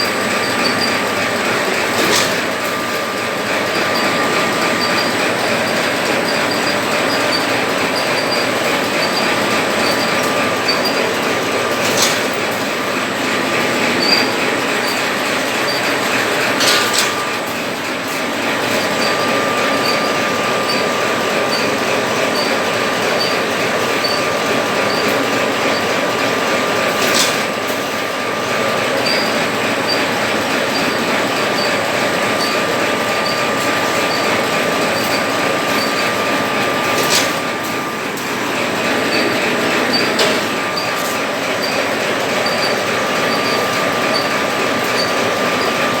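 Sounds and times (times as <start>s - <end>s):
machine mechanical clatter: 0.0s - 46.0s.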